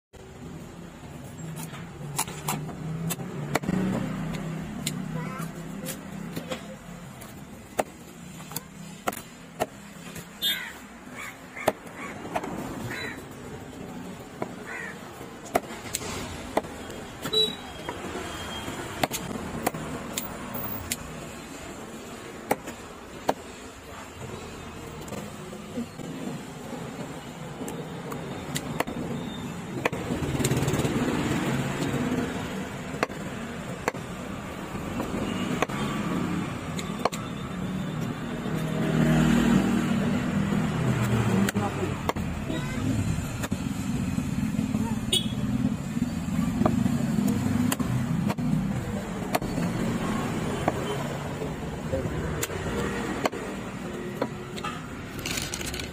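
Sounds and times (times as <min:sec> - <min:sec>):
street traffic: 0:00.1 - 0:55.9.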